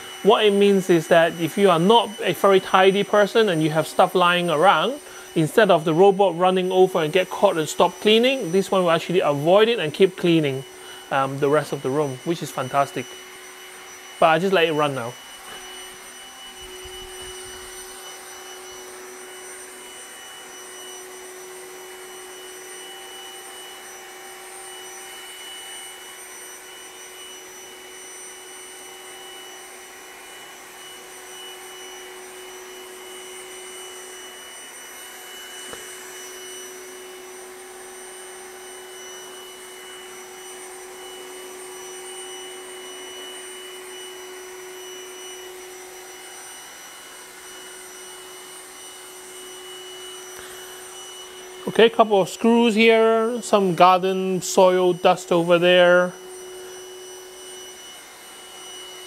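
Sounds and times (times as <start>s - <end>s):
robot vacuum cleaner running: 0.0s - 59.0s.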